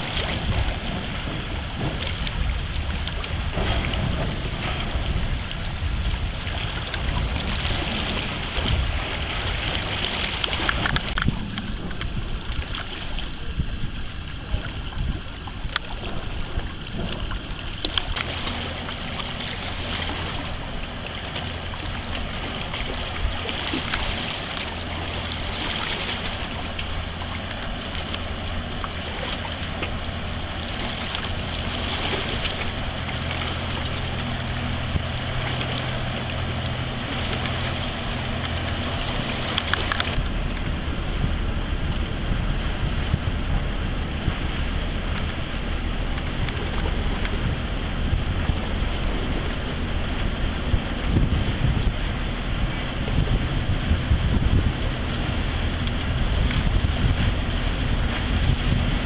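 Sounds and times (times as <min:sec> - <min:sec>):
ferry engines humming: 0:00.0 - 0:59.0
water noise: 0:00.0 - 0:59.0
wind buffeting microphone: 0:00.0 - 0:59.0.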